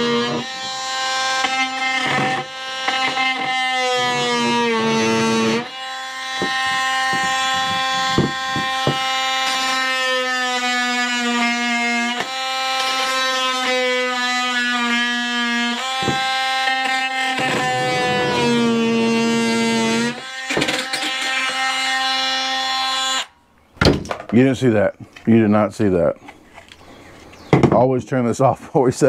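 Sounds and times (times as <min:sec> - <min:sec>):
power drill whining: 0:00.0 - 0:23.4.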